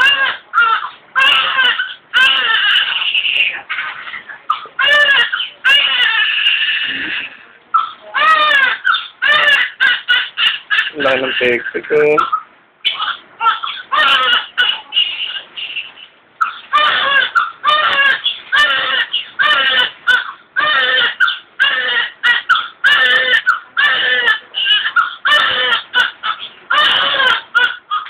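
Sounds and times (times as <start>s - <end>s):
newborn baby crying: 0.0s - 28.0s.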